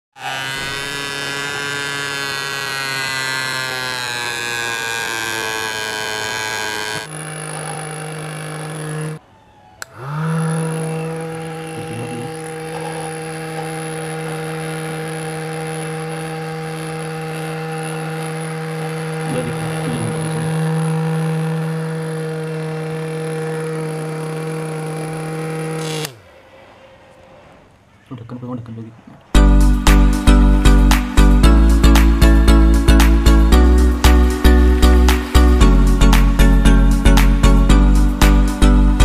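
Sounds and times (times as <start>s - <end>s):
small electric motor whining: 0.2s - 26.4s, 29.4s - 39.0s.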